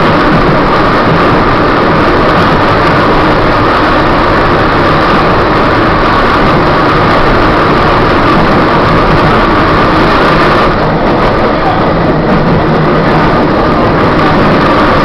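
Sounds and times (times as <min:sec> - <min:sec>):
trolley wheels rumbling and rattling: 0:00.0 - 0:15.0.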